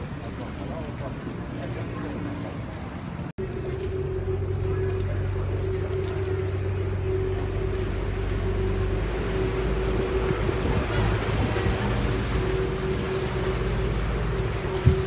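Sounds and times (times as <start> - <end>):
boat engine droning: 0.0 - 15.0
rushing water: 0.0 - 15.0
wind: 0.0 - 15.0.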